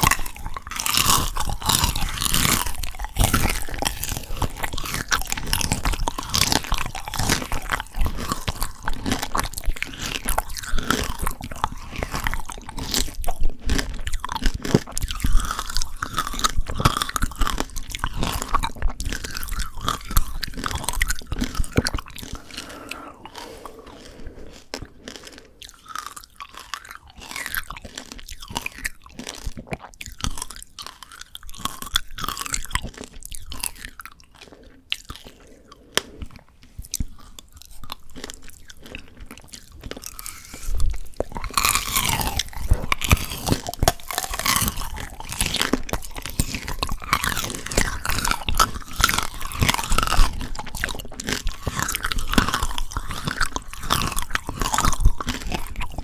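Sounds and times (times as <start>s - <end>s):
candy shell crunching: 0.0s - 56.0s
wet chewing: 0.0s - 56.0s.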